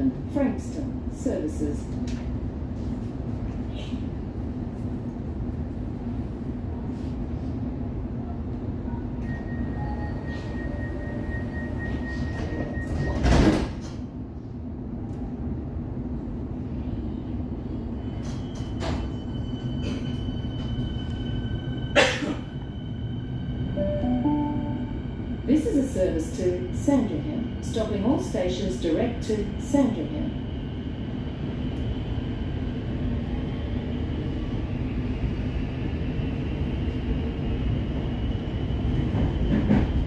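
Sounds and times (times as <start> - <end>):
electric train hum: 0.0 - 40.0.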